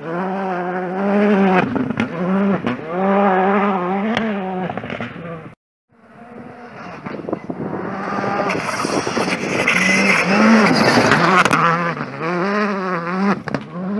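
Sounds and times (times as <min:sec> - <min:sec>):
rally car engine passing: 0:00.0 - 0:13.9.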